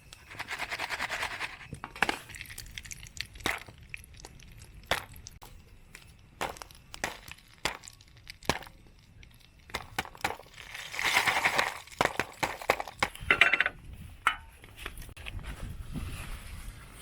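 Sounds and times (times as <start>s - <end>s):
gear clinking and crunching: 0.0s - 15.1s.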